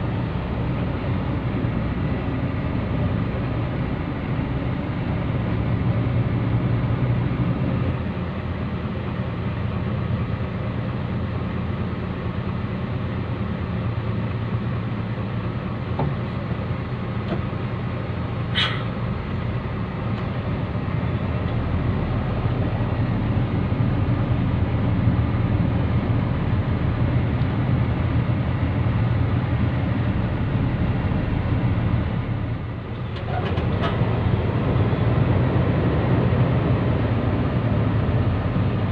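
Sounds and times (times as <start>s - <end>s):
diesel truck engine droning: 0.0s - 38.9s.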